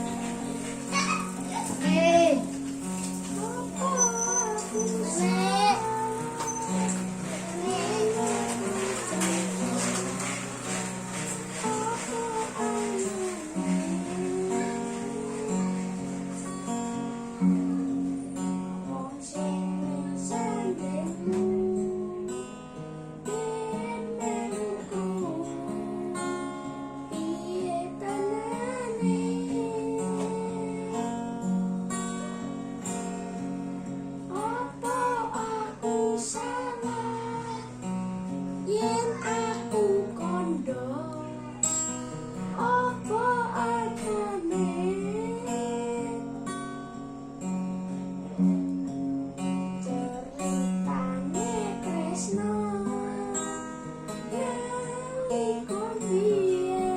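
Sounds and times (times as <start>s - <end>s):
person singing with vibrato: 0.0s - 32.1s, 34.3s - 47.3s, 49.6s - 56.9s
strummed acoustic guitar: 0.0s - 56.9s.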